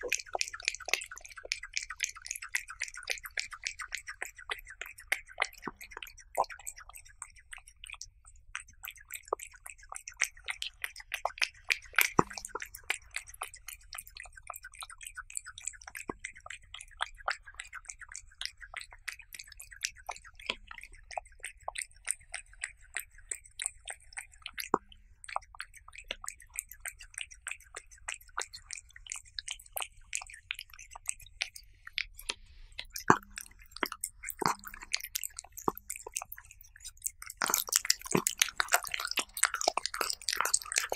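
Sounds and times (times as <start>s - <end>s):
cat chewing wetly: 0.0s - 40.9s.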